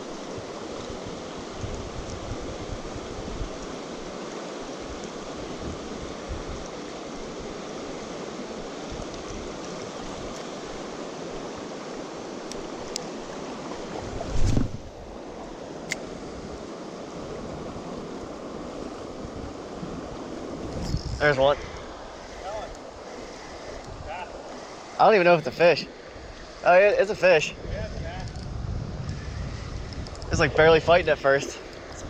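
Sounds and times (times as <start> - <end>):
river current rushing: 0.0 - 32.0.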